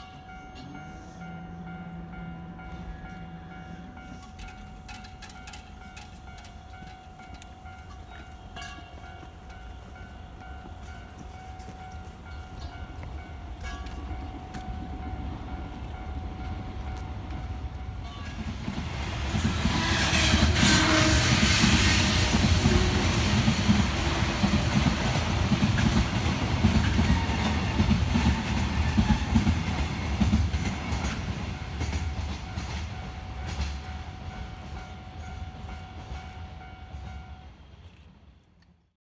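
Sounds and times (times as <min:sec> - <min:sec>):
train rumble: 0:00.0 - 0:38.7
wheel-on-rail noise: 0:01.7 - 0:38.4.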